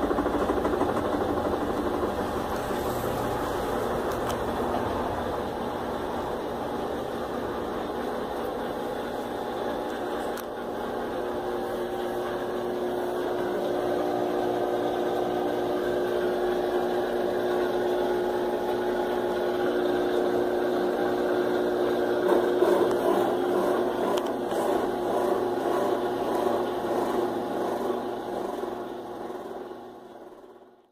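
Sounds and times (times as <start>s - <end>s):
washing machine spinning: 0.0s - 30.9s.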